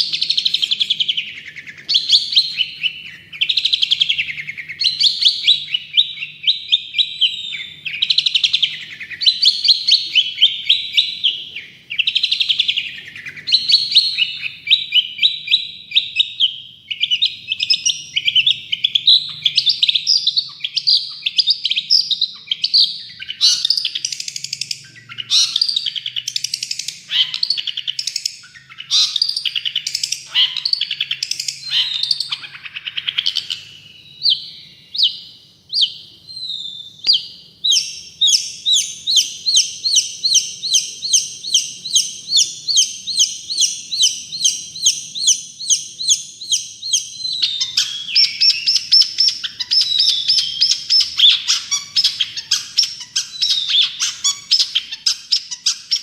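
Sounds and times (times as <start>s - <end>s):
shrike singing varied song: 0.0s - 56.0s.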